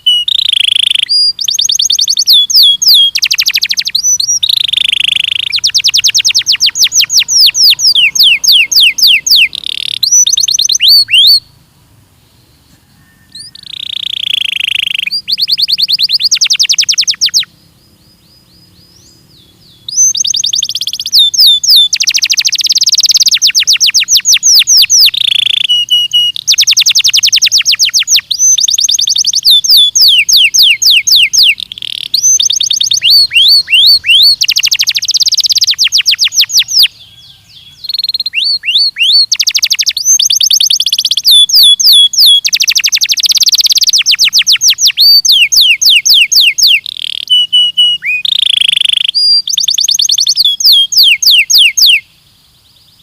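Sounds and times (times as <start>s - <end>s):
canary singing trills: 0.0s - 11.6s, 12.3s - 53.0s.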